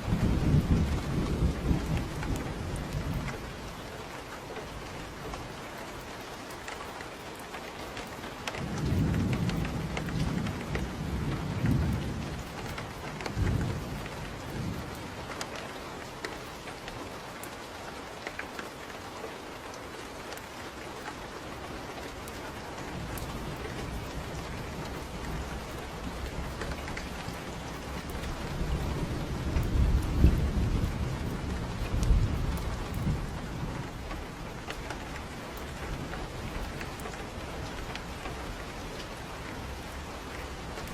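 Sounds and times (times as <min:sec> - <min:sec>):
thunder rumbling: 0:00.0 - 0:05.6, 0:08.5 - 0:16.9, 0:21.4 - 0:40.9
rain on a roof: 0:00.0 - 0:40.9.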